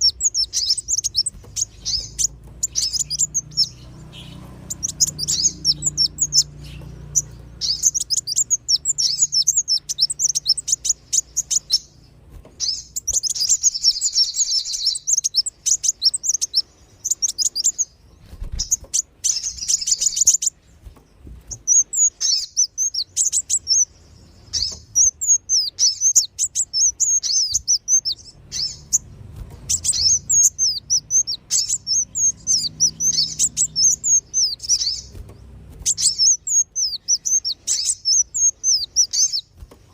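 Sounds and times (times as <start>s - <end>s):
high-pitched bird chirping: 0.0s - 20.6s, 21.5s - 39.9s.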